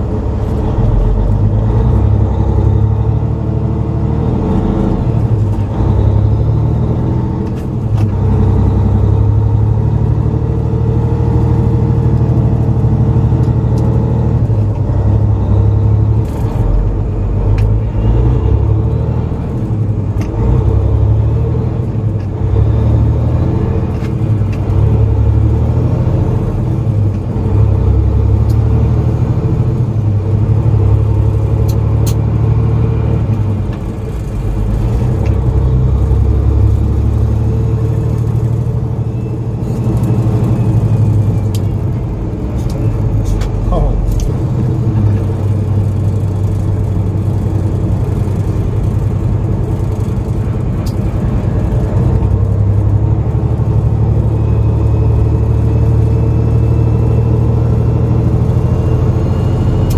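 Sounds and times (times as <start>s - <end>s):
diesel truck engine rumble: 0.0s - 59.9s.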